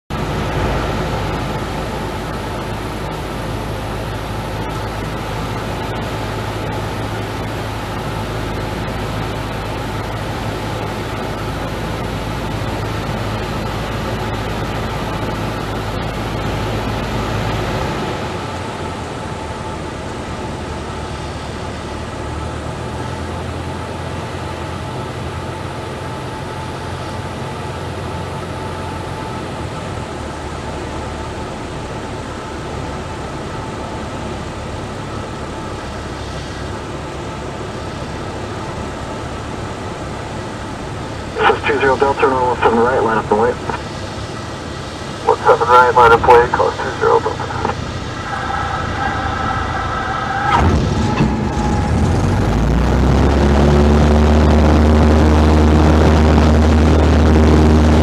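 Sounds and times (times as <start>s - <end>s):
propeller plane engine droning: 0.1s - 58.0s.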